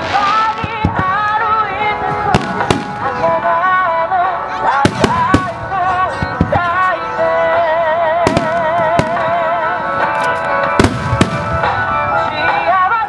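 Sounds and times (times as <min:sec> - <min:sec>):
song with sung melody: 0:00.0 - 0:13.0.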